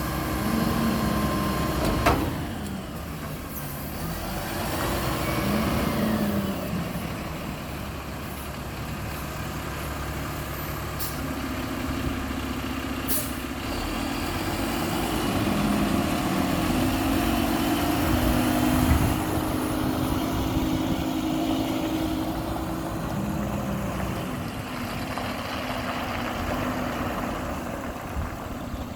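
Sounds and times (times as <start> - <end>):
garbage truck engine running: 0.0 - 28.9.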